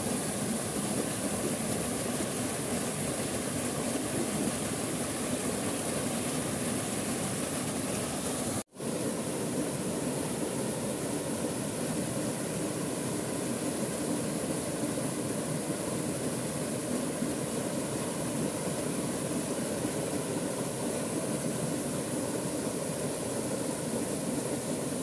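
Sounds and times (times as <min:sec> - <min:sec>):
waterfall rushing into pool: 0:00.0 - 0:25.0.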